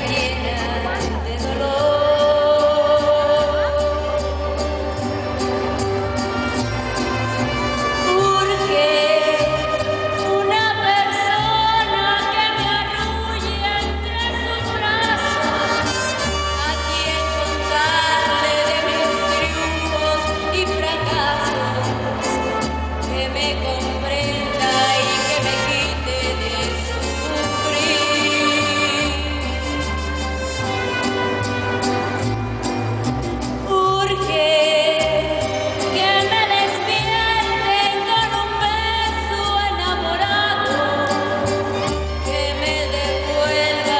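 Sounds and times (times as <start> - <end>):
woman singing into microphone: 0.0 - 5.0, 8.0 - 30.0, 33.6 - 43.9
mariachi band violins and guitars: 0.0 - 43.9
plucked bass line: 0.0 - 43.9.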